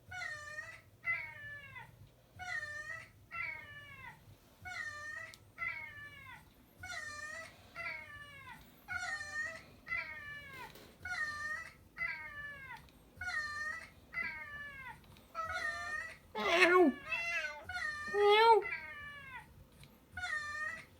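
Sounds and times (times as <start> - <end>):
cat meowing: 0.1 - 19.5, 20.2 - 20.9.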